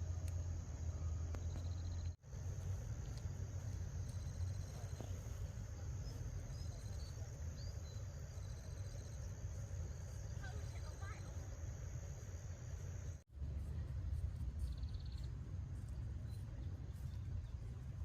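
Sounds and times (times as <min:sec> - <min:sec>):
crickets and insects chirping: 0:00.0 - 0:18.0.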